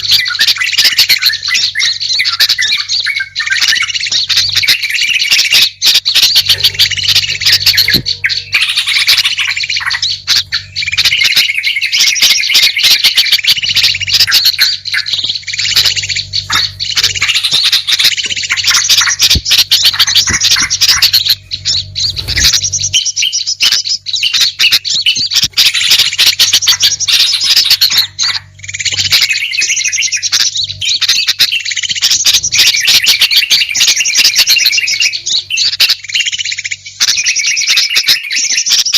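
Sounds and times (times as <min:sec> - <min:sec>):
steady low hum: 0:00.0 - 0:37.0
songbird chirps and trills: 0:00.0 - 0:38.9.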